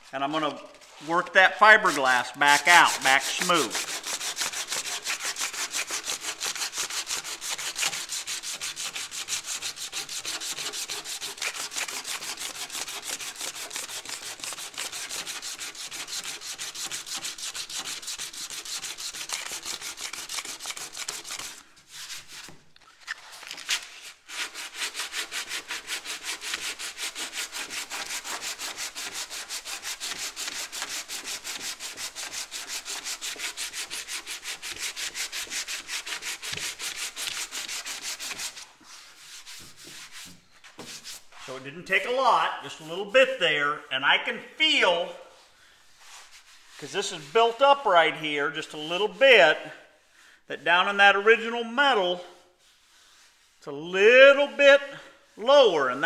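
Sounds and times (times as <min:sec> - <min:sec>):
sandpaper rasping on body filler: 0:00.8 - 0:22.6, 0:23.6 - 0:43.4, 0:45.0 - 0:48.0, 0:52.4 - 0:53.6.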